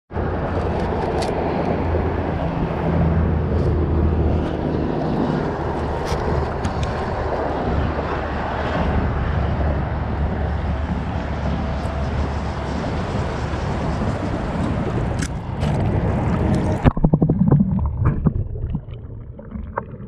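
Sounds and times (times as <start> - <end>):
low droning underwater hum: 0.2 - 20.0.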